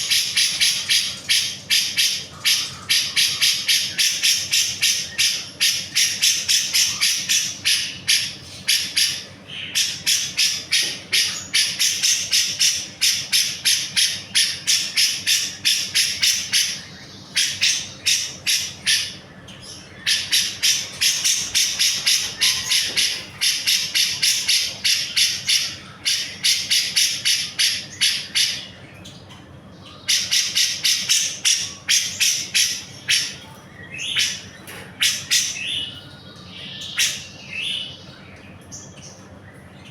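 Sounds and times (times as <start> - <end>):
bulbul singing rapid chatter: 0.0 - 39.9.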